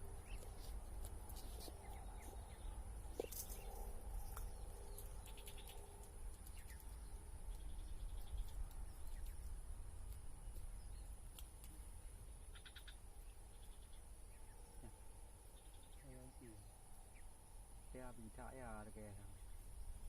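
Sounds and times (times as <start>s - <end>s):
rapid insect chirps: 0.0s - 20.0s.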